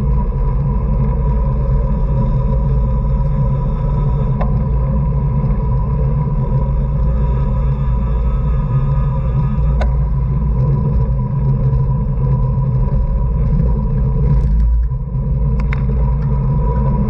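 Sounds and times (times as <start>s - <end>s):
faint steady whine: 0.0s - 17.0s
wind rush on microphone: 0.0s - 17.0s.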